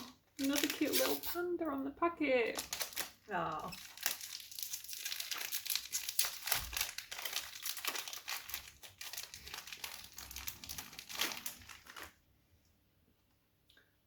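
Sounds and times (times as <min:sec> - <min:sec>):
packet wrapper crinkling: 0:00.0 - 0:01.5, 0:02.5 - 0:12.2.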